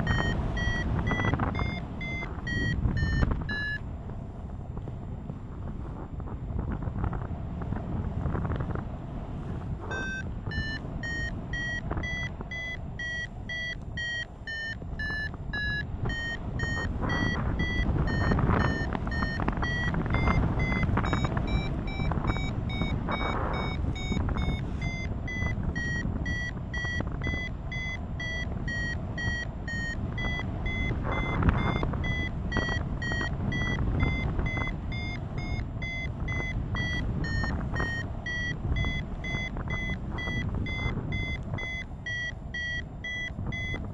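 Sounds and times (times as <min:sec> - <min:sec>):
variometer short beeps: 0:00.0 - 0:03.9, 0:09.8 - 0:43.9
wind rushing over microphone: 0:00.0 - 0:43.9.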